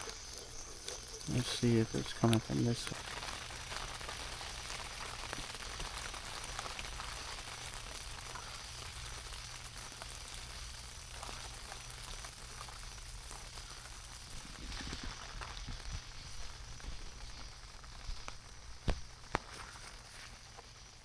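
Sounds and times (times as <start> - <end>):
rain pattering on a tent: 0.0 - 21.0.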